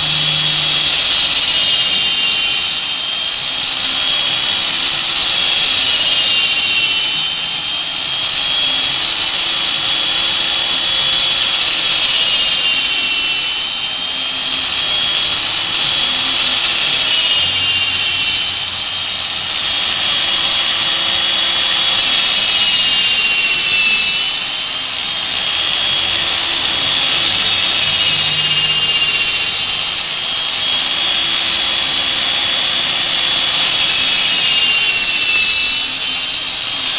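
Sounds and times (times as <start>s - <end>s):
electric drill boring into wood: 0.0s - 36.9s.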